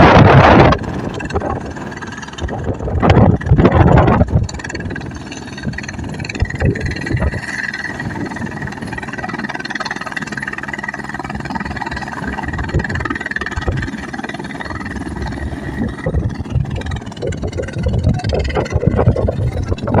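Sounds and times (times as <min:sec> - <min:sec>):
helicopter high whine: 0:00.0 - 0:20.0
helicopter low rumble: 0:00.0 - 0:20.0.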